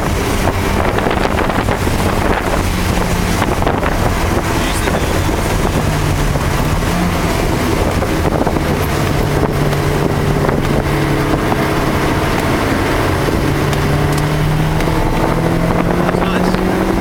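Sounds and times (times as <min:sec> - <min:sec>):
car engine pulling at speed: 0:00.0 - 0:17.0
wind rushing: 0:00.0 - 0:17.0.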